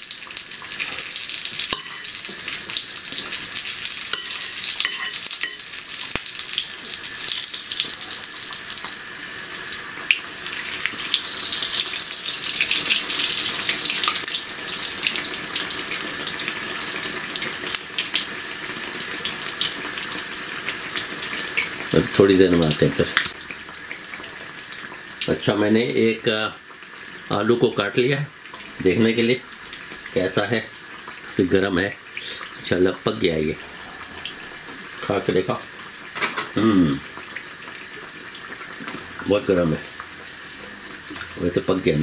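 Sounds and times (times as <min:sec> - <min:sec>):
oil sizzling while deep-frying: 0:00.0 - 0:42.0.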